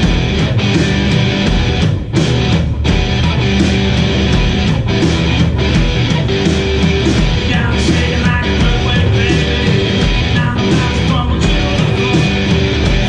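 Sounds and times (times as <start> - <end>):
bass guitar: 0.0 - 13.0
distorted electric guitar: 0.0 - 13.0
drums: 0.0 - 13.0.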